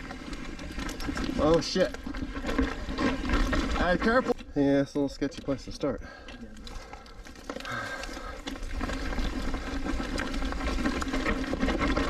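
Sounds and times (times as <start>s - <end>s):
bike tyres crunching on dirt: 0.0s - 12.0s.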